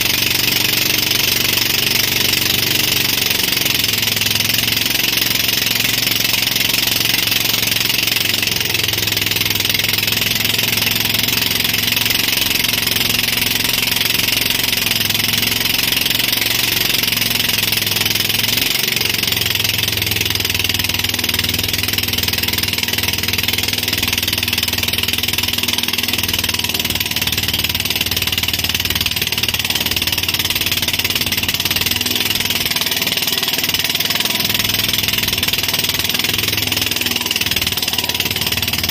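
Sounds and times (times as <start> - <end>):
churning wake: 0.0 - 38.9
motorboat engine running: 0.0 - 38.9.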